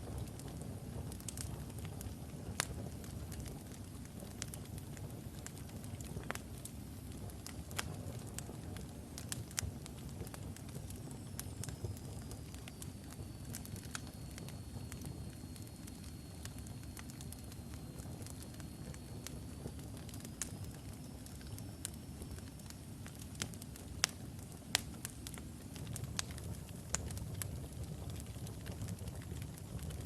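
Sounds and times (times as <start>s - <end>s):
fire rumbling with crackles: 0.0s - 30.0s.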